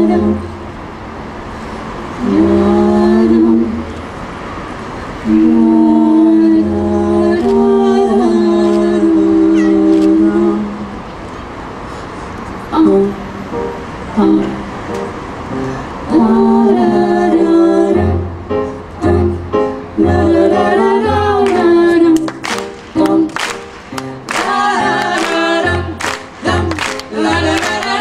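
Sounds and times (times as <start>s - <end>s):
people singing in harmony: 0.0s - 0.8s, 2.1s - 11.0s, 12.7s - 28.0s.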